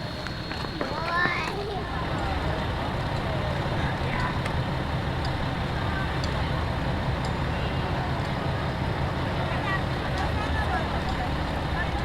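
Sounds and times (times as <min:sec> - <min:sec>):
faint voices: 0:00.0 - 0:12.0
low mechanical rumble: 0:00.0 - 0:12.0.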